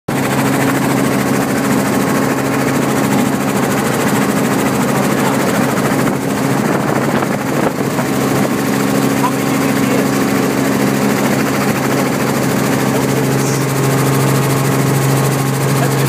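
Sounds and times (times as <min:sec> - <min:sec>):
helicopter engine and rotors: 0:00.1 - 0:16.0.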